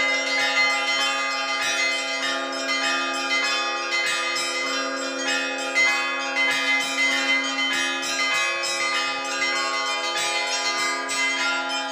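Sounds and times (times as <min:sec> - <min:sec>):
church bells ringing: 0:00.0 - 0:11.9.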